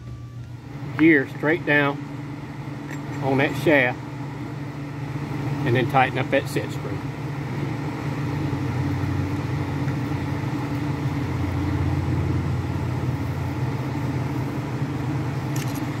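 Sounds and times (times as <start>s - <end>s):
machine droning hum: 0.0s - 16.0s.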